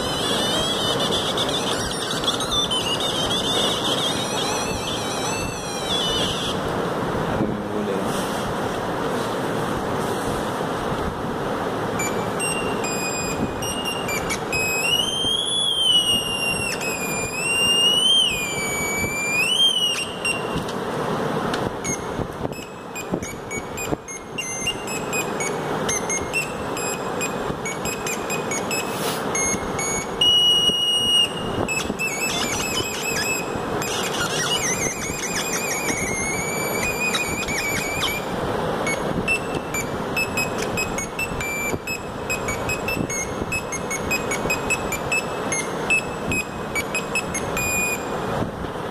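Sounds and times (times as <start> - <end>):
electronic tones from small loudspeaker: 0.0 - 6.6, 11.9 - 20.7, 21.8 - 48.2.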